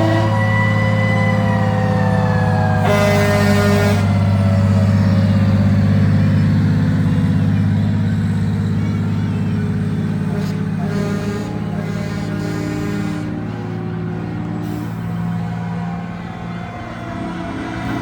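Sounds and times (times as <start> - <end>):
air horn blast: 0.0 - 18.0
fire truck siren: 0.0 - 18.0
low engine drone: 0.0 - 18.0.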